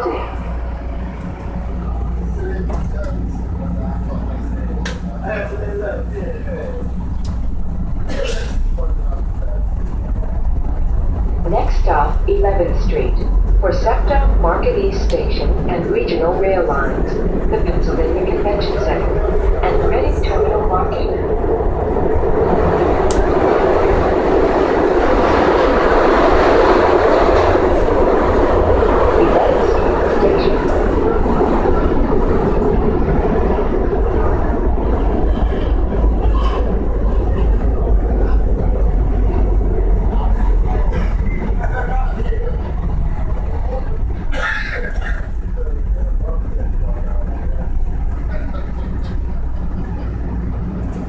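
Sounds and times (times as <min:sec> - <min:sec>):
subway car rumbling: 0:00.0 - 0:51.0.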